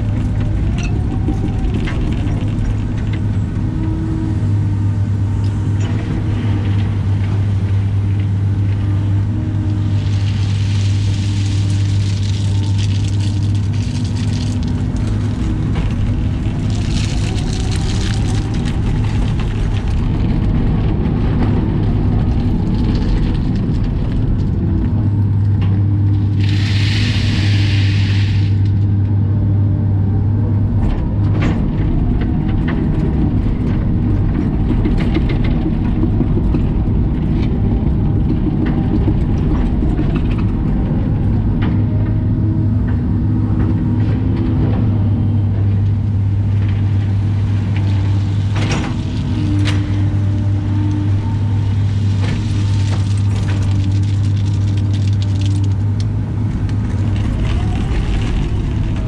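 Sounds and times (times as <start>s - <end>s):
hydraulic bucket moving rock: 0.0s - 29.2s, 30.2s - 59.0s
excavator diesel engine droning: 0.0s - 59.0s.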